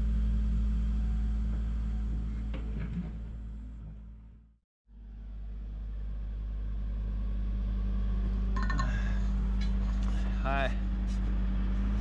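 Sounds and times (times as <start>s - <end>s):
low machine rumble with hum: 0.0s - 12.0s.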